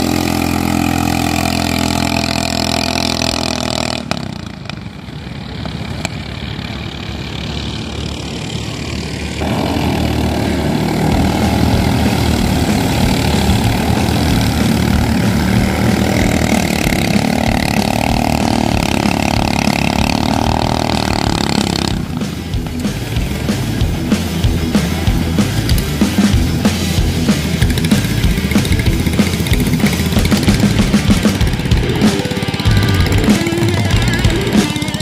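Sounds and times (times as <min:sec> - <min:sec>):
boat engines racing: 0:00.0 - 0:35.0.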